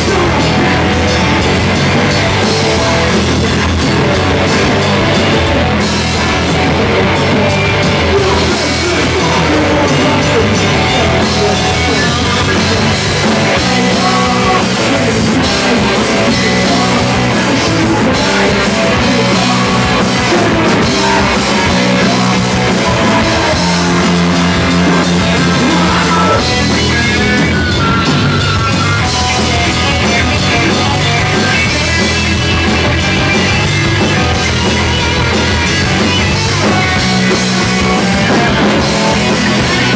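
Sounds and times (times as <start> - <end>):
drum kit: 0.0 - 39.9
electric guitar: 0.0 - 39.9
rock band playing live: 0.0 - 39.9.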